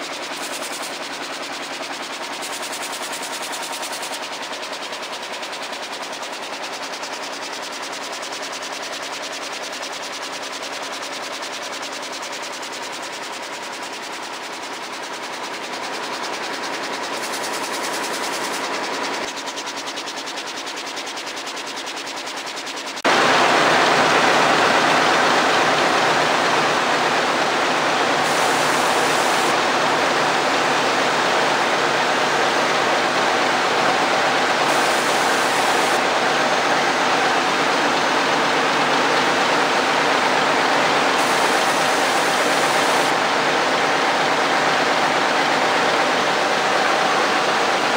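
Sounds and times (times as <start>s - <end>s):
running looms noise: 0.0s - 47.9s.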